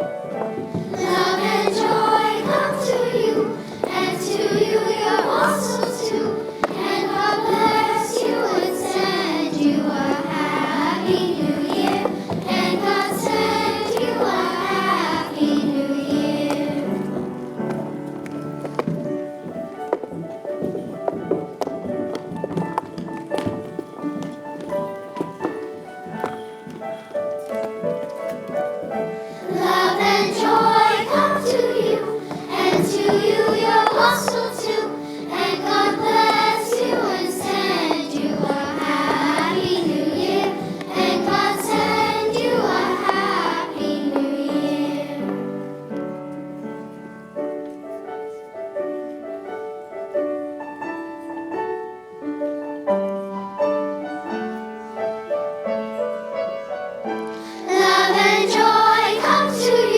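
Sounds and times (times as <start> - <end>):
children's choir singing: 0.0 - 48.5, 53.4 - 59.9
instrumental accompaniment: 0.0 - 59.9.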